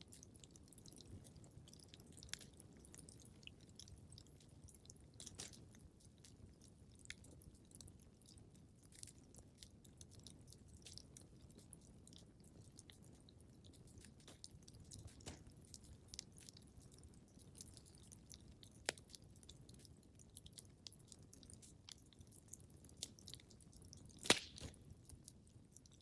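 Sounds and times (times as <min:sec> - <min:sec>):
wood fire crackling: 0:00.1 - 0:26.0.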